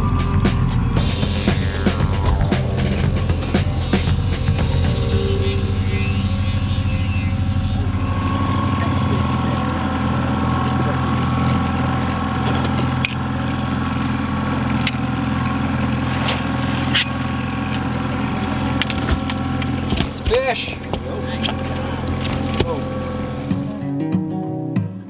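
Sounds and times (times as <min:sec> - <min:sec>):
outboard motor running: 0:00.0 - 0:23.7.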